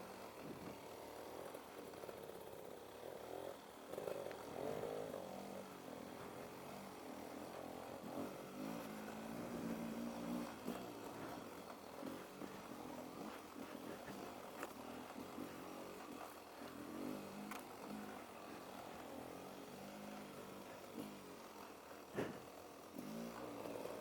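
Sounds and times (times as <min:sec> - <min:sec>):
faint motorcycle engine revving: 0:00.0 - 0:24.0.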